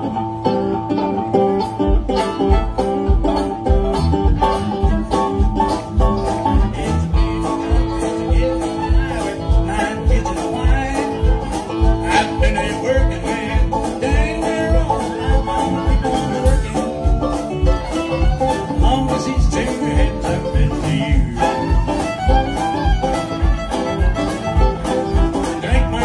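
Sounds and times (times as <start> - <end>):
acoustic and electric guitars: 0.0 - 26.0
bass: 0.0 - 26.0
fiddle: 0.0 - 26.0
steady drum beat: 1.6 - 26.0.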